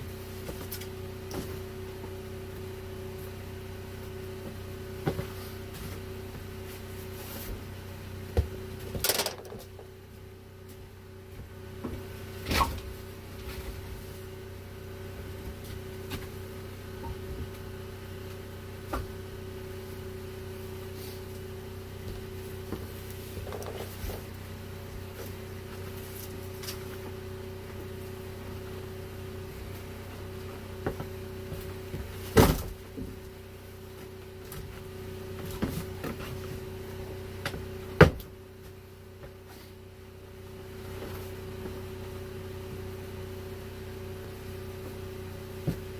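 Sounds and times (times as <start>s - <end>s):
steady hum: 0.0s - 45.9s.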